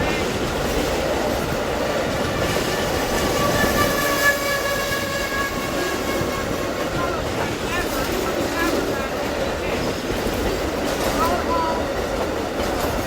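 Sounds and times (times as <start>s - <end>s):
train cars rumbling past: 0.0s - 13.0s.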